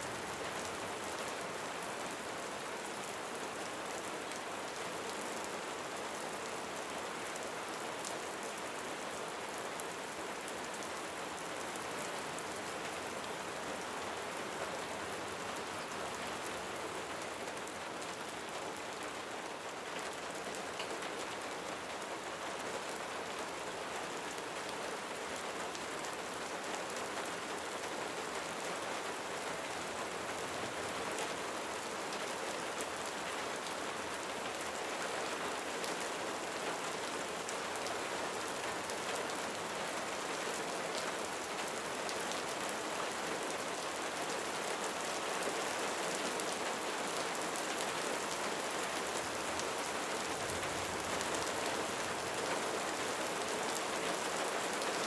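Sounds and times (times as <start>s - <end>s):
rain drumming on a roof: 0.0s - 55.0s.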